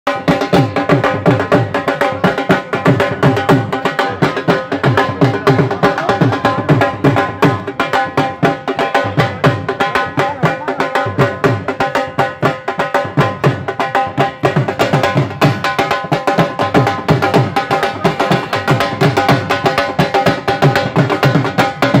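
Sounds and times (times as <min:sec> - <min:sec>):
barrel drums fast dance rhythm: 0:00.1 - 0:22.0.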